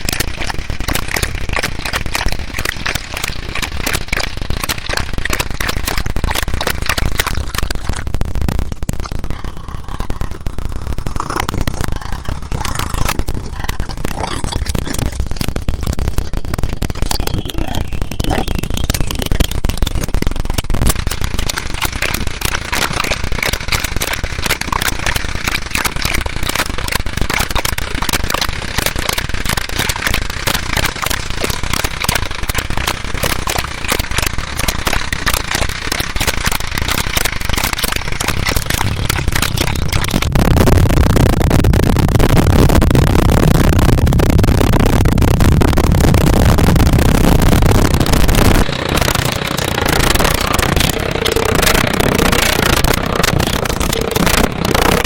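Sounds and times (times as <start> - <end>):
dense crackling pops and clicks: 0.0 - 55.0.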